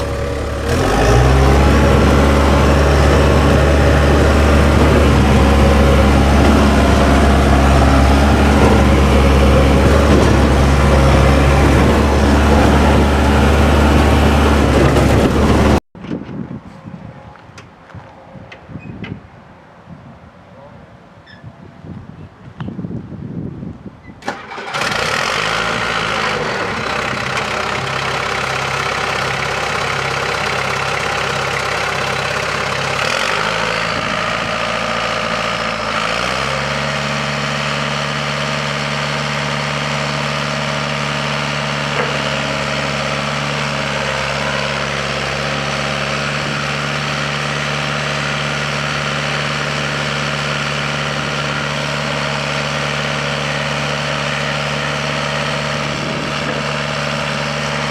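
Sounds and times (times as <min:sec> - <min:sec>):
diesel engine idling: 0:00.0 - 0:15.8, 0:24.4 - 0:57.9.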